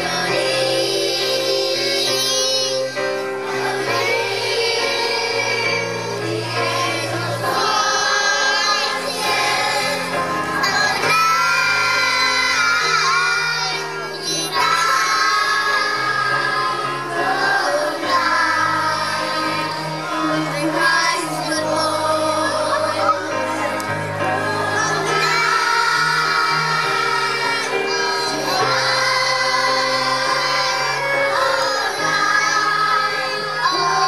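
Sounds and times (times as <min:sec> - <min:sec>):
children's choir singing: 0:00.0 - 0:34.0
instrumental accompaniment: 0:00.0 - 0:34.0.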